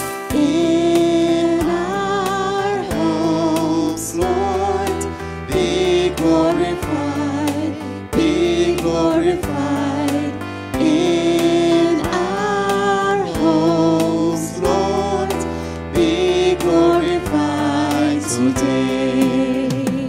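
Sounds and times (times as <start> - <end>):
instrumental accompaniment: 0.0 - 20.0
man and women singing: 0.3 - 20.0.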